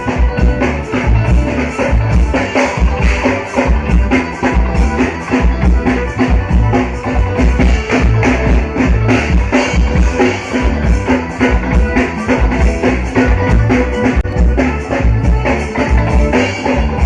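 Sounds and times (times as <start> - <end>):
drum kit: 0.0 - 17.0
live band playing amplified music: 0.0 - 17.0.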